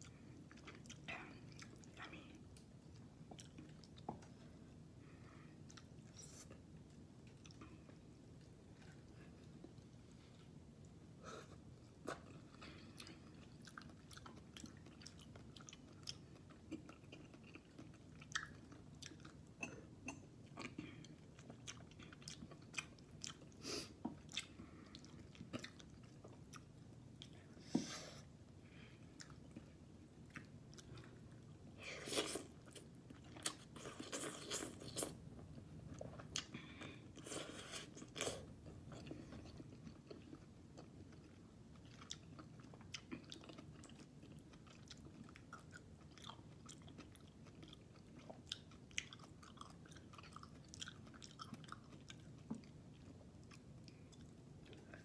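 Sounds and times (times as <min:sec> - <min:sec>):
person chewing: 0:00.0 - 0:04.8, 0:05.5 - 0:27.6, 0:29.0 - 0:35.2, 0:35.9 - 0:55.0.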